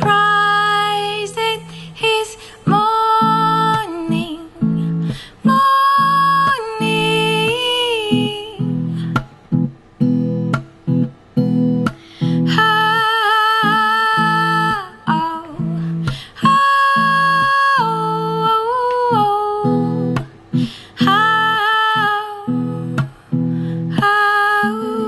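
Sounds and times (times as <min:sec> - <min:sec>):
woman singing long notes: 0:00.0 - 0:09.2, 0:12.4 - 0:25.0
strummed acoustic guitar: 0:00.0 - 0:25.0.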